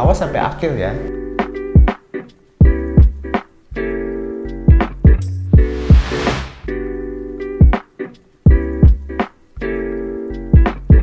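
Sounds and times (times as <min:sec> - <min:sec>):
background music with beat: 0:01.1 - 0:11.0.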